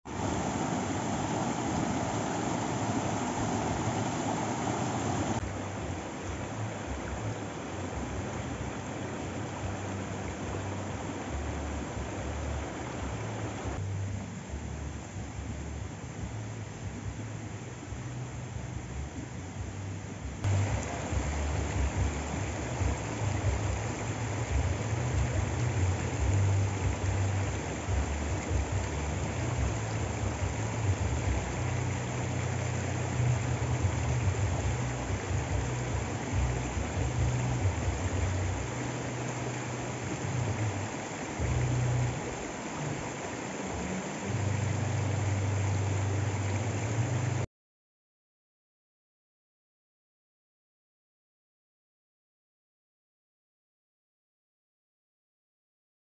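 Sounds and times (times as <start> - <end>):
stream rushing over rocks: 0.0 - 47.5.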